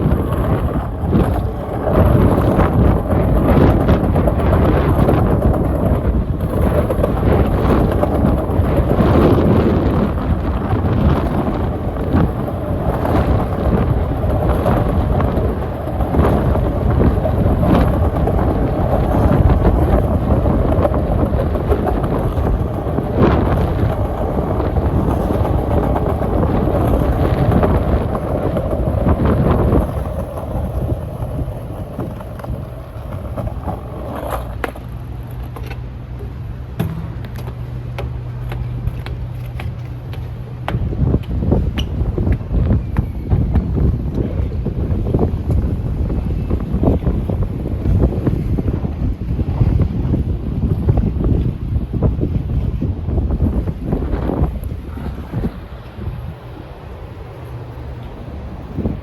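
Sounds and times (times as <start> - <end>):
skateboard wheels rolling on pavement: 0.0 - 59.0
steady low hum: 0.0 - 59.0.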